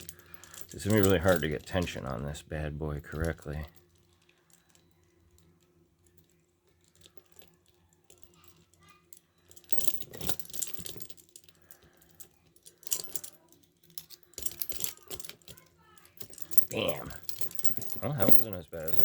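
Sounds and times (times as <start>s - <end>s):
lock and chain clinking: 0.0s - 2.2s, 3.0s - 19.0s.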